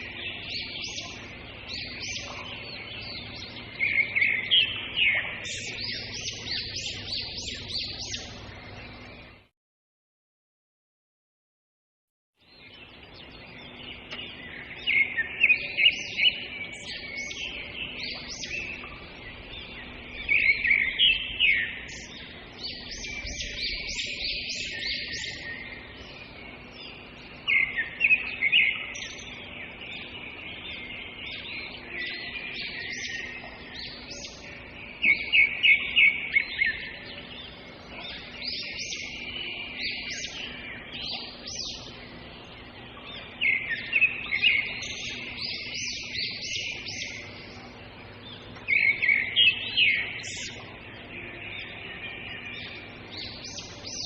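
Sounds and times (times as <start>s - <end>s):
songbirds chirping and twittering: 0.0s - 9.5s, 12.4s - 54.0s.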